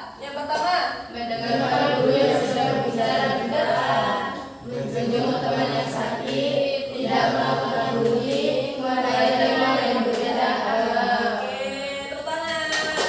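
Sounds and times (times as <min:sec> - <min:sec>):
group singing unaccompanied: 0:01.1 - 0:13.0.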